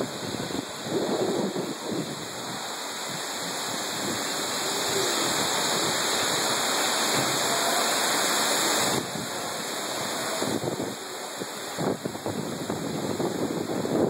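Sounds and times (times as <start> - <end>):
strong wind: 0.0 - 14.0
torrential rain: 0.0 - 14.0.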